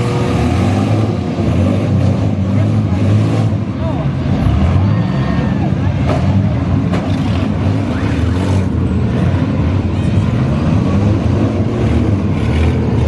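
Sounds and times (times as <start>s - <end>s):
minivan engines running loud: 0.0s - 13.0s.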